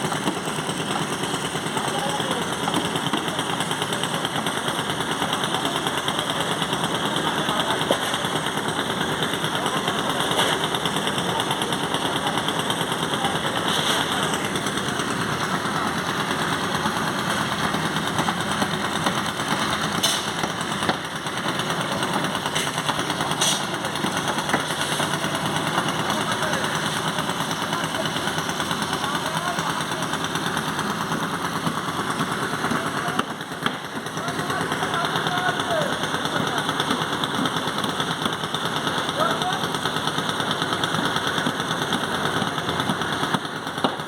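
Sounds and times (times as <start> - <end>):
construction machinery rattling: 0.0 - 44.0.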